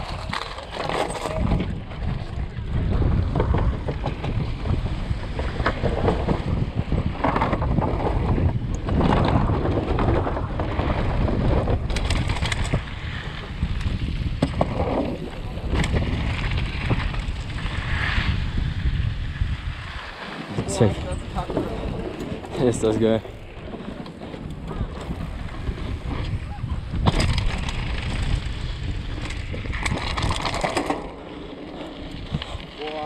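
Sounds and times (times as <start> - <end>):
bike knocks and rattles: 0.0 - 17.6, 21.3 - 33.0
bike tyres rolling on dirt: 0.0 - 33.0
wind buffeting microphone: 0.0 - 33.0.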